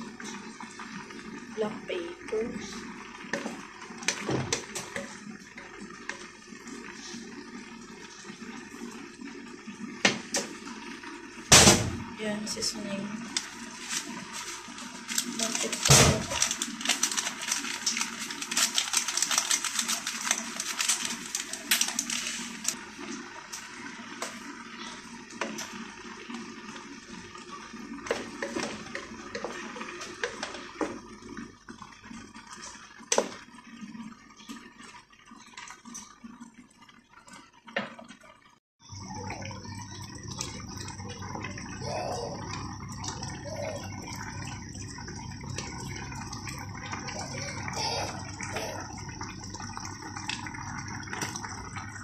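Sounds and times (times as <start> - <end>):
liquid simmering and bubbling: 0.0 - 52.0.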